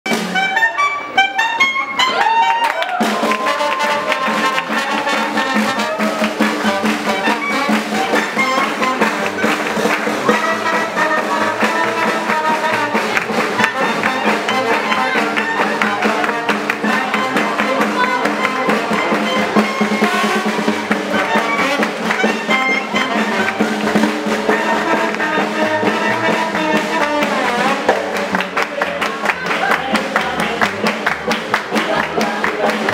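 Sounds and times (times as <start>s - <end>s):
drum kit beat: 0.1s - 1.4s, 2.1s - 32.9s
clarinet: 0.1s - 27.9s
trombone: 0.1s - 28.9s
swing jazz band playing: 0.1s - 32.9s.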